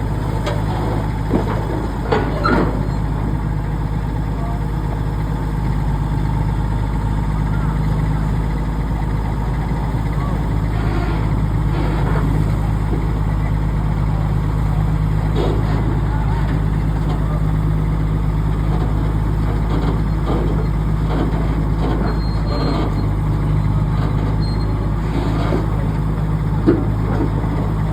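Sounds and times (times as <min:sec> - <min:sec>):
heavy diesel engine droning: 0:00.0 - 0:27.9.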